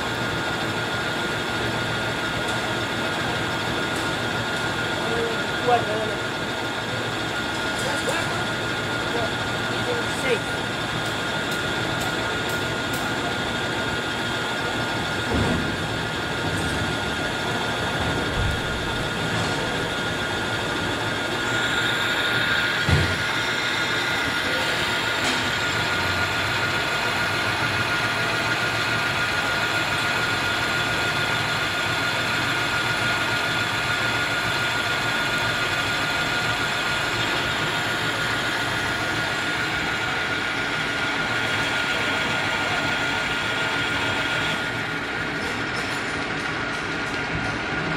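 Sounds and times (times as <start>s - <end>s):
metal lathe running: 0.0s - 47.9s.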